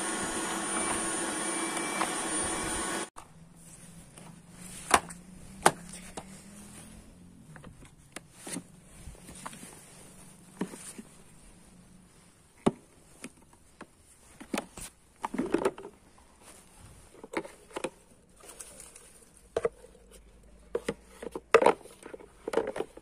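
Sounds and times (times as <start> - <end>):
rustling: 3.2 - 23.0.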